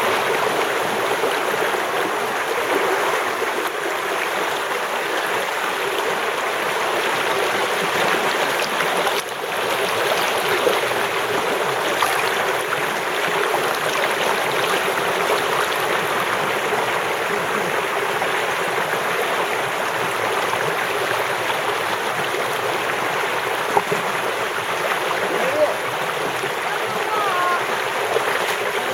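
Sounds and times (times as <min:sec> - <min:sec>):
creek water rushing: 0:00.0 - 0:28.9.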